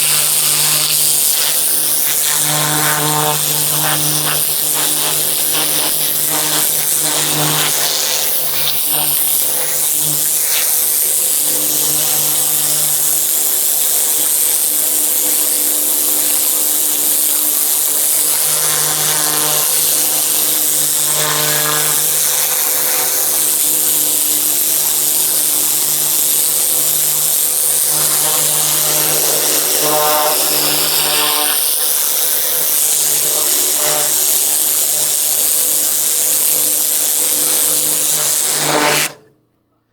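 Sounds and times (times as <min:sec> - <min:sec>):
spray hissing: 0:00.0 - 0:39.2
pressure washer running: 0:00.0 - 0:39.3.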